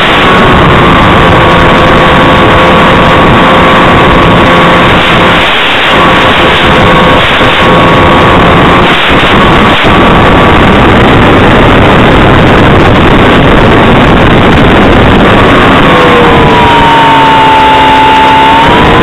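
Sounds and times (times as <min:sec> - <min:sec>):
electric motor and propeller whine: 0:00.0 - 0:19.0
wind buffeting microphone: 0:00.0 - 0:19.0.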